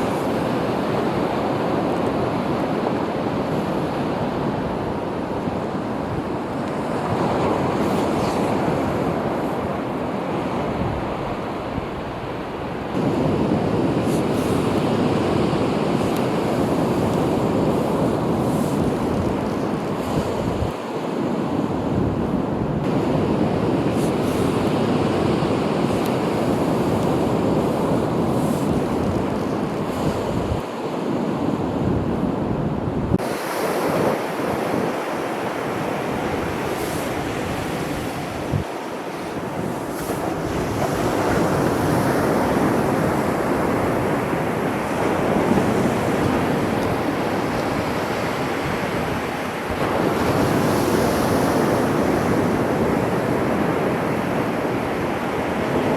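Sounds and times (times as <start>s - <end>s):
waves breaking on shore: 0.0s - 55.9s
wind gusting on microphone: 0.0s - 55.9s.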